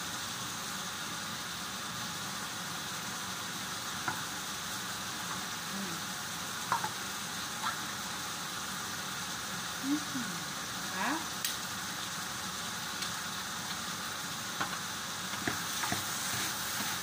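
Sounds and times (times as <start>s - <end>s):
chicken sizzling in frying pan: 0.0s - 17.0s.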